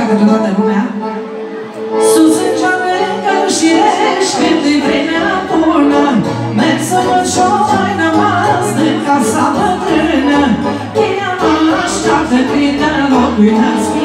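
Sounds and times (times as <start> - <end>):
folk song over loudspeakers: 0.0 - 14.0
musical accompaniment: 0.0 - 14.0.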